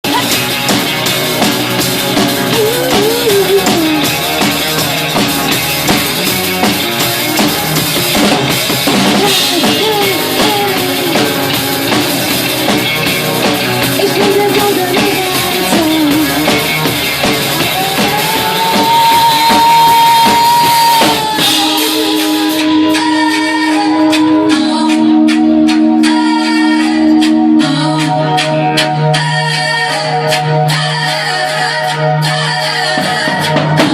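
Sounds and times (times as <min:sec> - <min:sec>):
wavering lead melody: 0:00.0 - 0:33.6
drum kit playing: 0:00.0 - 0:33.9
rock band music: 0:00.0 - 0:33.9.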